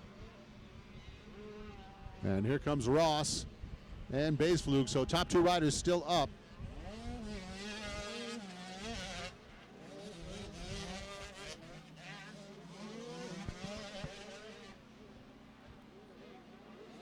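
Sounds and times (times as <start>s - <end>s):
motocross bike engines revving: 0.8s - 14.8s.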